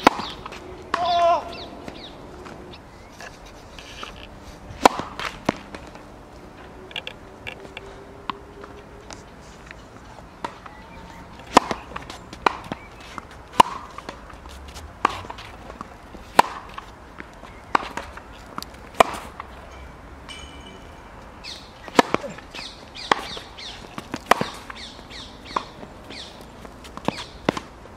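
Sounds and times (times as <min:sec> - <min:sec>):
tennis balls struck by rackets: 0:00.0 - 0:09.2, 0:10.0 - 0:27.9.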